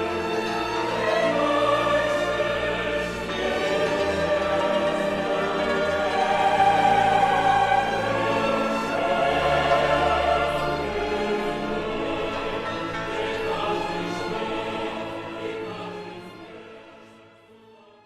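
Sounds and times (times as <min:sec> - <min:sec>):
choir singing with orchestra: 0:00.0 - 0:18.0.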